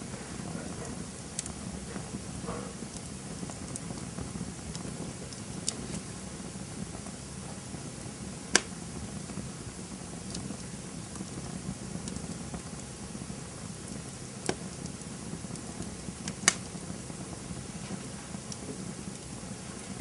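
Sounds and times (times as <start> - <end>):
burning wood popping: 0.0 - 20.0
campfire rumbling: 0.0 - 20.0.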